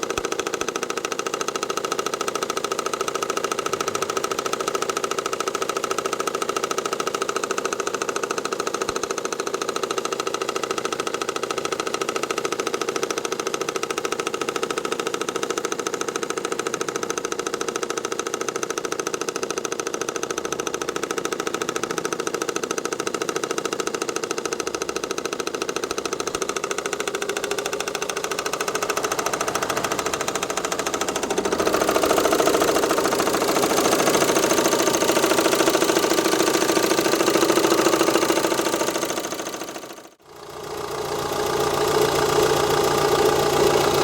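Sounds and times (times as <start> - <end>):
car engine knocking: 0.0 - 44.0.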